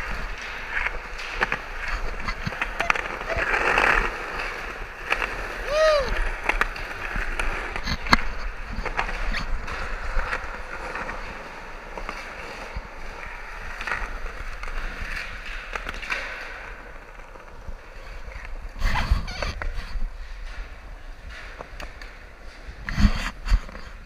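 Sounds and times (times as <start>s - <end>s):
skateboard clatter: 0.0s - 24.0s
skateboard wheels rolling on concrete: 0.0s - 24.0s.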